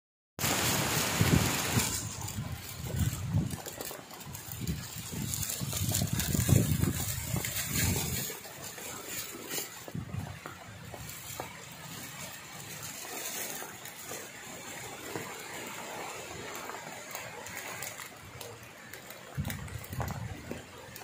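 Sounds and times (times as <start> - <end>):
low rumbles of wind buffeting: 0.4 - 13.2, 13.8 - 21.0
heavy rain hissing: 0.4 - 21.0
wind gusts: 0.4 - 21.0.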